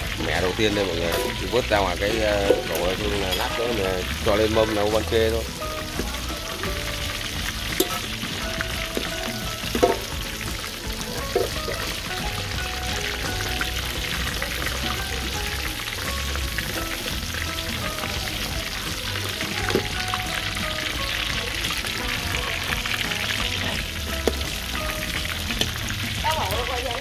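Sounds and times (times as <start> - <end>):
deep-frying sizzle: 0.0 - 27.0.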